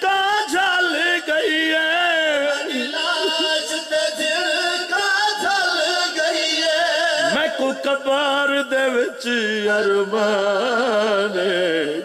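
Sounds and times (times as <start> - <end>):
man singing lament through microphone: 0.0 - 12.0.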